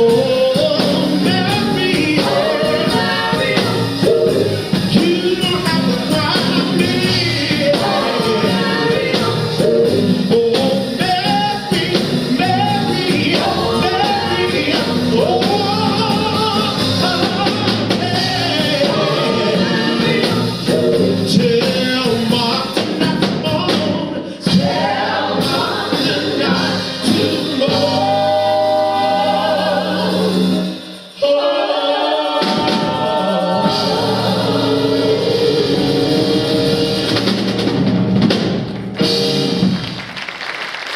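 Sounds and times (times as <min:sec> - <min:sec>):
gospel choir singing: 0:00.0 - 0:38.0
band accompaniment: 0:00.0 - 0:40.9.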